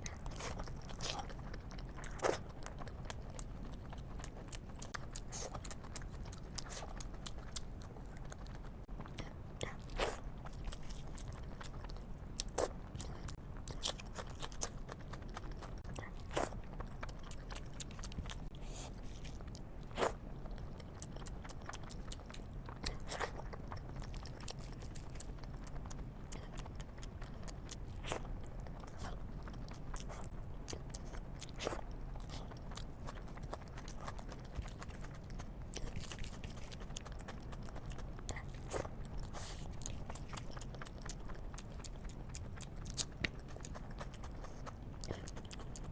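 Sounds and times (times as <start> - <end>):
chewing and mouth sounds: 0.0 - 45.9
steady low hum: 0.0 - 45.9.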